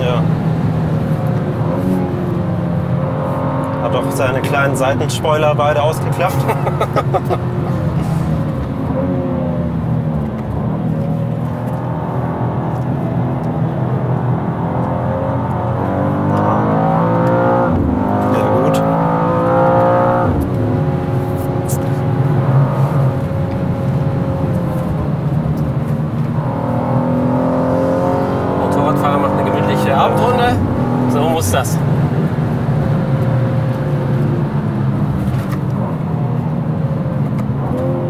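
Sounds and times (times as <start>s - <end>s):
car engine revving under load: 0.0s - 38.0s.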